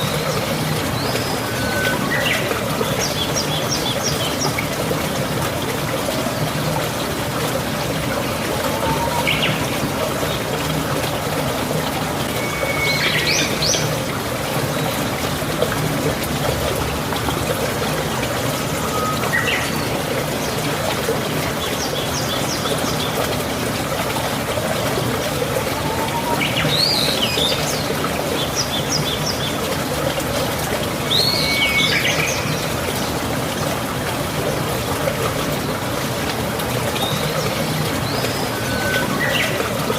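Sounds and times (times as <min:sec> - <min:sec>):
trickle of running water: 0:00.0 - 0:39.9.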